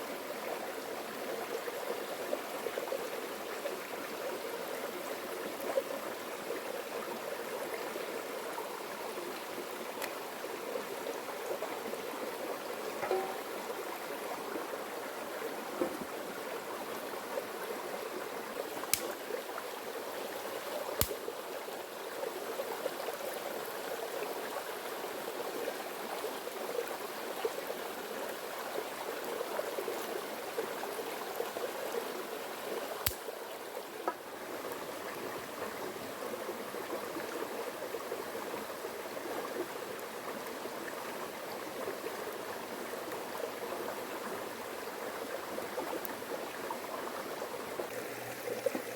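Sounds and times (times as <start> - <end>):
stream water bubbling: 0.0 - 48.9.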